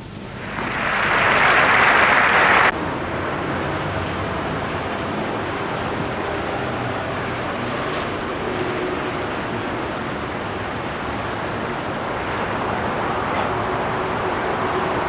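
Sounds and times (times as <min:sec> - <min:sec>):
loud rushing noise: 0:00.0 - 0:15.0
cars driving on a wet road: 0:00.4 - 0:15.0.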